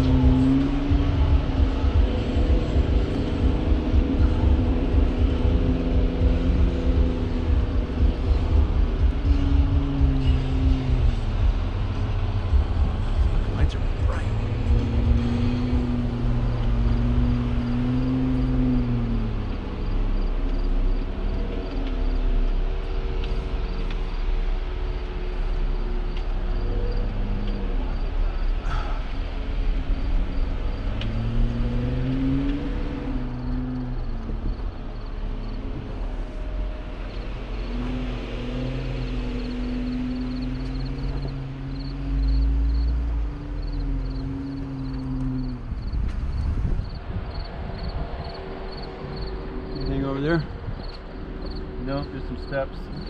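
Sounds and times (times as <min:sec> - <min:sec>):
engine revving at low revs: 0:00.0 - 0:53.0.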